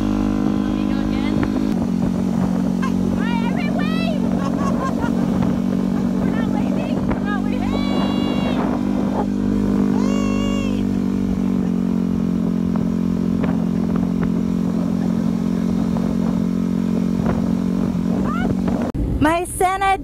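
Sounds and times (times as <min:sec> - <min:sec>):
motorcycle engine running: 0:00.0 - 0:19.2.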